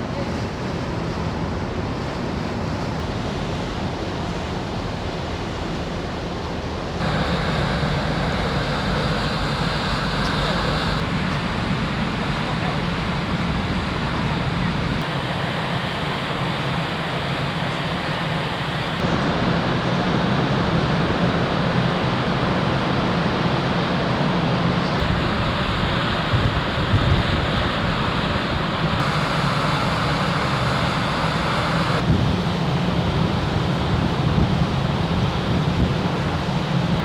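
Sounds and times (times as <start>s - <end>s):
sea noise: 0.0s - 37.0s
wind: 0.0s - 37.0s
ship engines droning: 0.1s - 37.0s.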